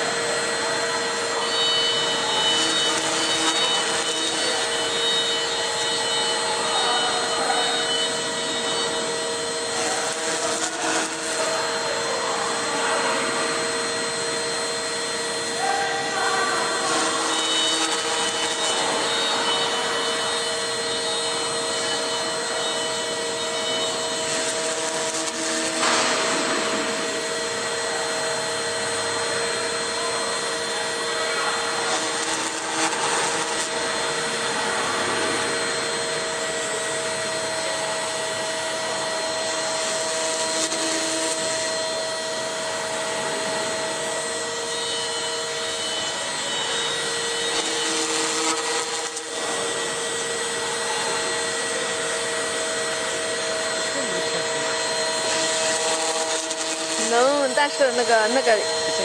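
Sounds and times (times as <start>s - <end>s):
cutter milling foam hiss: 0.0s - 59.0s
router spindle whine: 0.0s - 59.0s.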